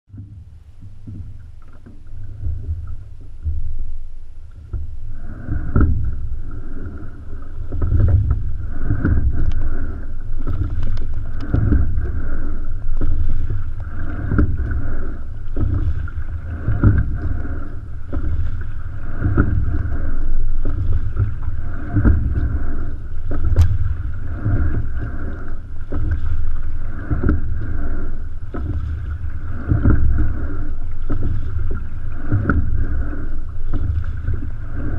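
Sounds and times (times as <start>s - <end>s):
water rushing along boat hull: 0.1s - 34.9s.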